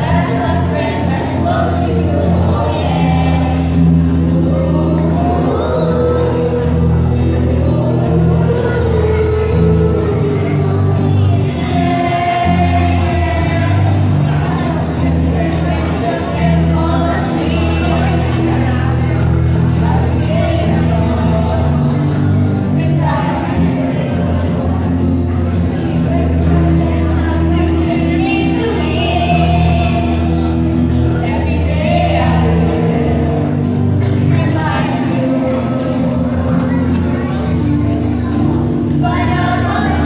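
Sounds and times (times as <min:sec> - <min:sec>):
children singing: 0:00.0 - 0:24.8, 0:25.6 - 0:40.0
strummed acoustic guitar: 0:00.0 - 0:40.0.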